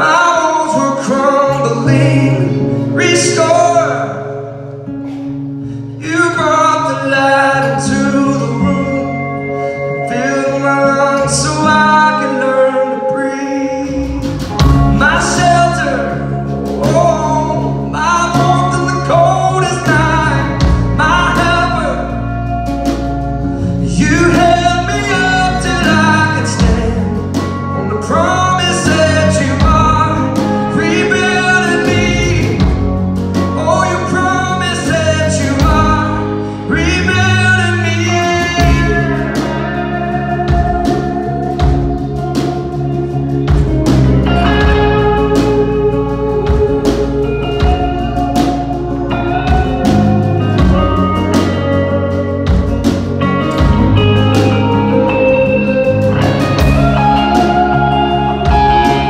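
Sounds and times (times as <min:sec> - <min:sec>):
drum kit: 0:00.0 - 0:12.9, 0:13.6 - 0:59.0
acoustic guitar: 0:00.0 - 0:59.0
bass guitar: 0:00.0 - 0:59.0
electric guitar: 0:00.0 - 0:59.0
man singing: 0:00.0 - 0:59.0.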